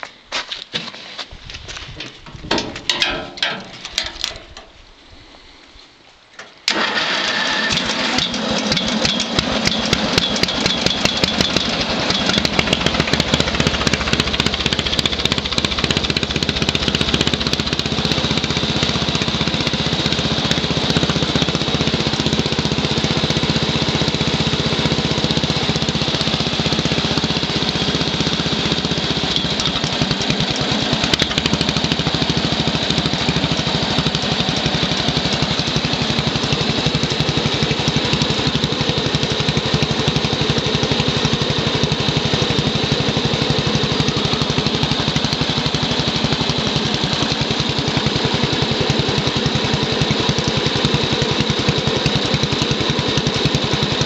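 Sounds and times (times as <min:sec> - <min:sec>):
garden tractor engine running: 0:06.4 - 0:54.0.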